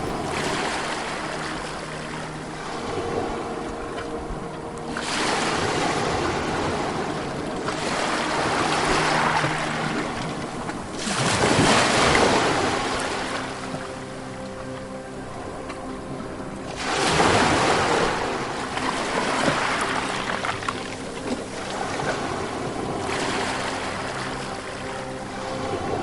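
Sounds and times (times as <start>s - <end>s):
ocean waves on a shore: 0.0s - 26.0s.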